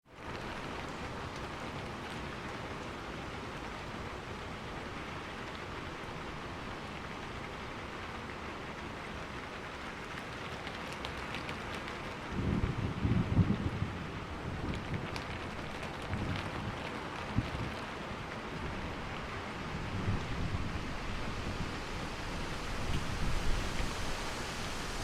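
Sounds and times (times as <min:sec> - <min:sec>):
rain falling on a roof: 0:00.0 - 0:25.0.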